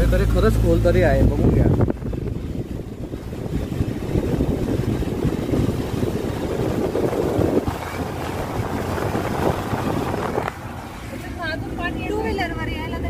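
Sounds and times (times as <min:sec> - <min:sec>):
car engine and tyre noise: 0:00.0 - 0:13.0
wind buffeting microphone: 0:00.3 - 0:13.0.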